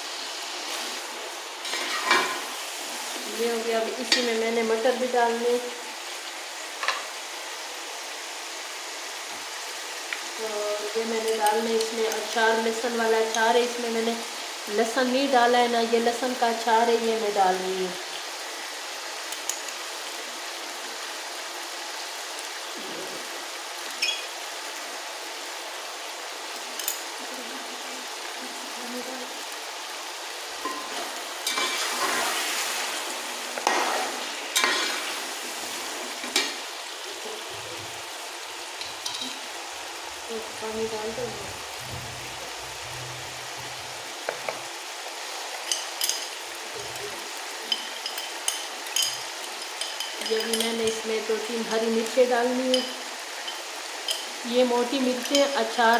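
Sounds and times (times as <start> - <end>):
food sizzling in oil: 0.0 - 55.9.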